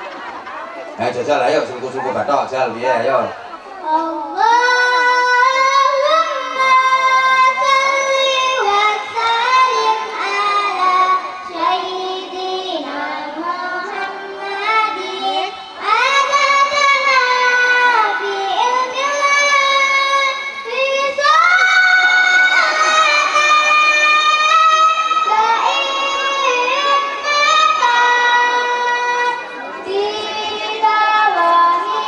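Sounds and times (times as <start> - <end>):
girl singing into a microphone: 3.8 - 32.0.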